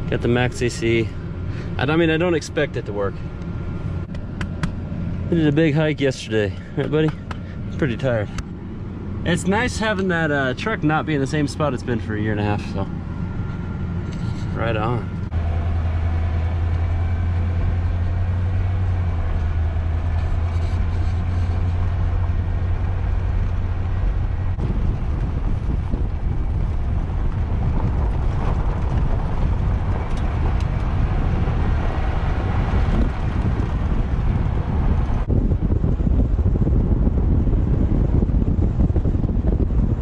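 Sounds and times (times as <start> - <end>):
engine drone: 0.0 - 40.0
road and wind noise: 0.0 - 40.0.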